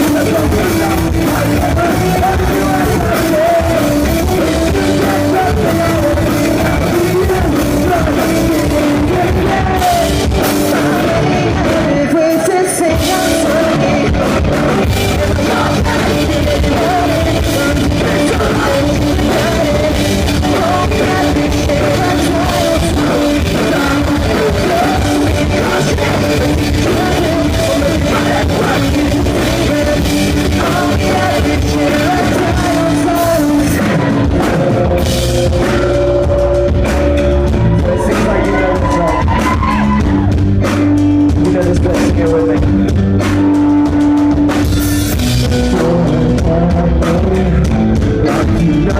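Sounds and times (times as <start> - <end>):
person singing: 0.0 - 42.9, 45.4 - 48.9
drum kit: 0.0 - 48.9
electric guitar: 0.0 - 48.9.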